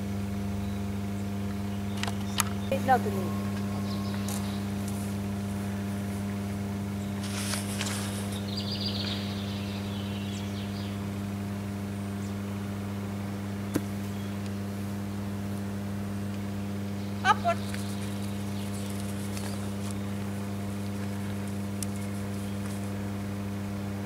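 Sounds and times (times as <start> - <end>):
transformer electrical hum: 0.0 - 24.0.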